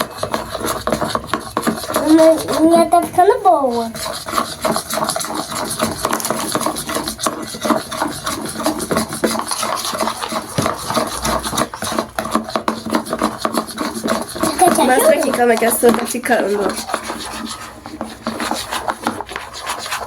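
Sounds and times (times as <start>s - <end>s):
spoon stirring slime in pot: 0.0s - 20.0s.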